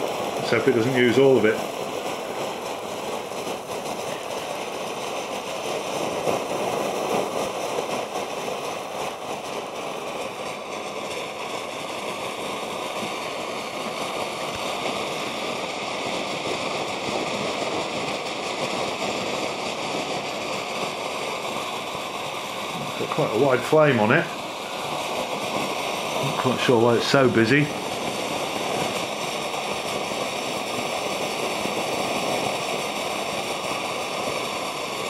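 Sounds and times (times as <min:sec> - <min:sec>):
stove burning with steady roar: 0:00.0 - 0:35.0.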